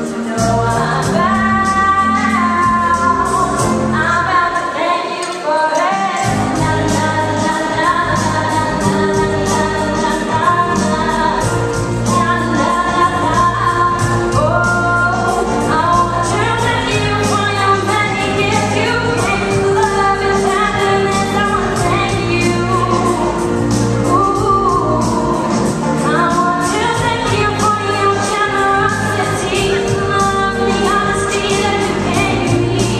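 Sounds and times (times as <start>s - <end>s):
instrumental accompaniment: 0.0s - 32.9s
woman singing into a microphone: 0.0s - 32.9s.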